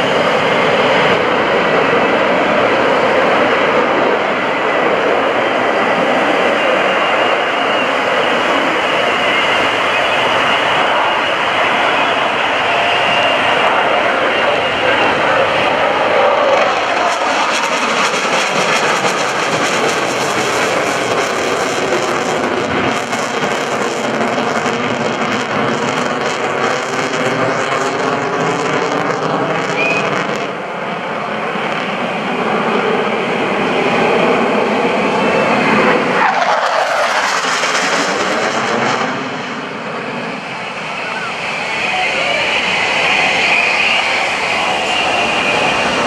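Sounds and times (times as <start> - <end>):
jets flying past: 0.0 - 46.0.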